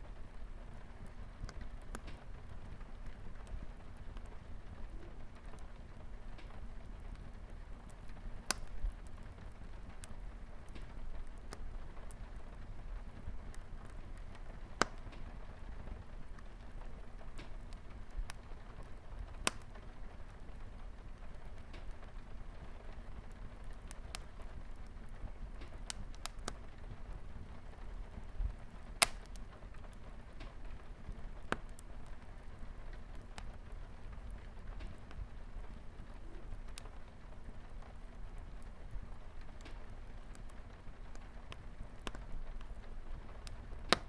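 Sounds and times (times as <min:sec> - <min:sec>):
light rain on a window: 0:00.0 - 0:44.0
wood fire crackling and popping: 0:00.0 - 0:44.0.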